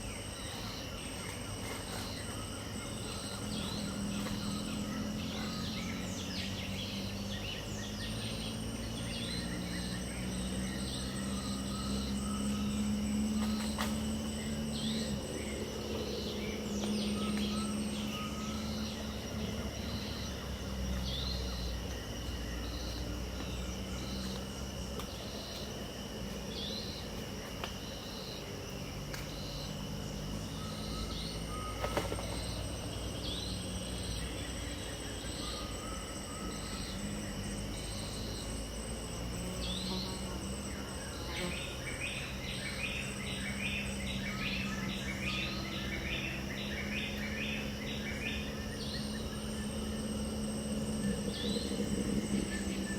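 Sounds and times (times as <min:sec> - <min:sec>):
birds chirping: 0:00.0 - 0:52.9
high insect drone: 0:00.0 - 0:52.9
low steady hum: 0:00.0 - 0:52.9.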